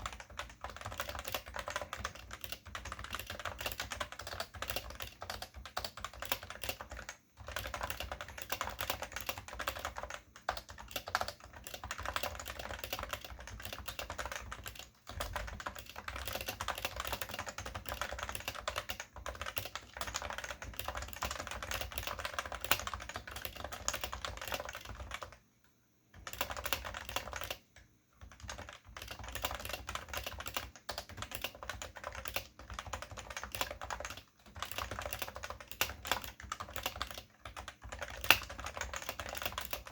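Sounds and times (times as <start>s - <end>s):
fast typing on keyboard: 0.0s - 25.4s, 26.1s - 39.9s.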